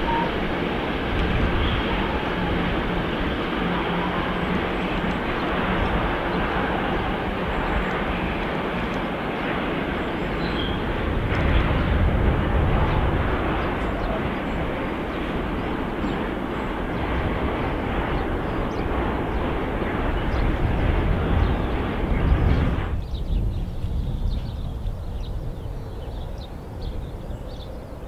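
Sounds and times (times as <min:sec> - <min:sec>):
distant freight train rumbling: 0:00.0 - 0:28.0.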